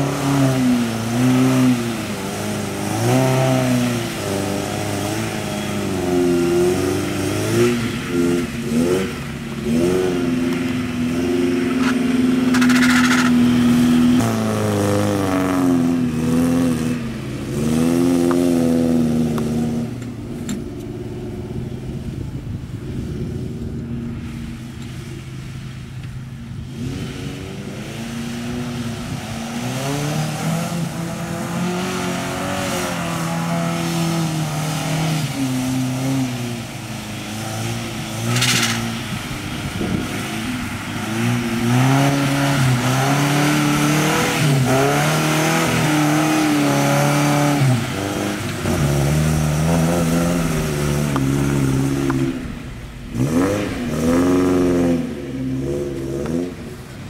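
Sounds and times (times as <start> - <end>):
tyres hissing through mud: 0.0 - 21.0, 22.8 - 57.0
truck engine revving: 0.0 - 25.7, 26.6 - 57.0.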